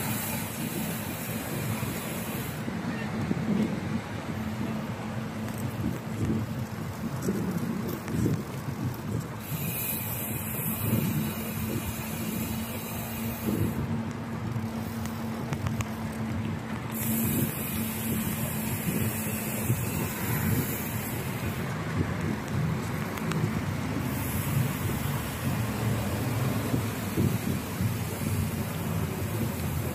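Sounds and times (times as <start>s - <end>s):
road noise: 0.0s - 29.9s
wind buffeting microphone: 0.0s - 29.9s.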